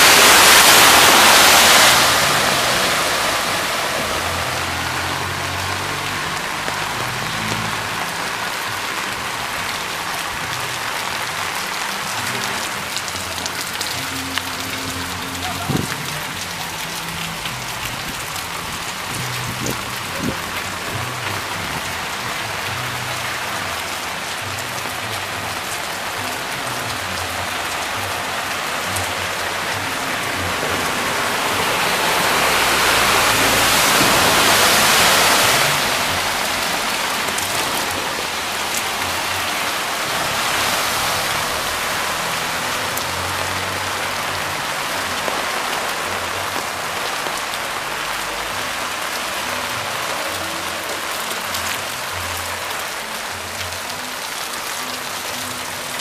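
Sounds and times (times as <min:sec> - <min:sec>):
bus driving through water: 0:00.0 - 0:56.0
heavy rain: 0:00.0 - 0:56.0
running water: 0:00.0 - 0:56.0.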